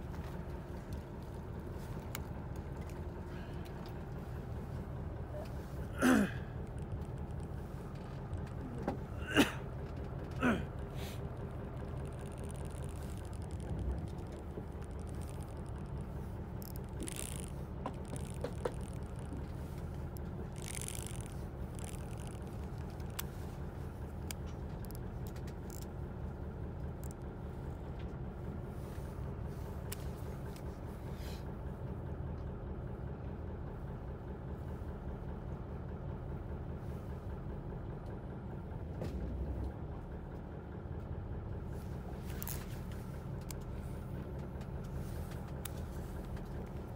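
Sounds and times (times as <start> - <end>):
boat engine idling: 0.0 - 46.9.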